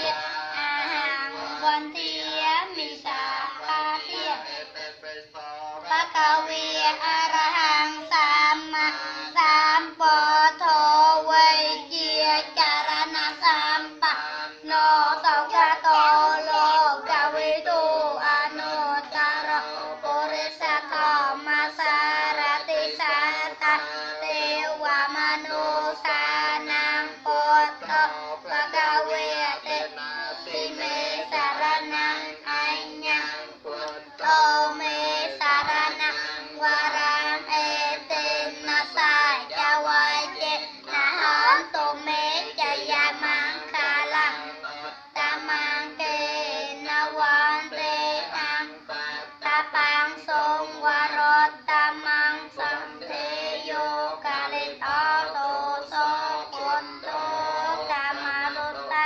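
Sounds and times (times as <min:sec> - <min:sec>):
children singing in unison: 0:00.0 - 0:59.0.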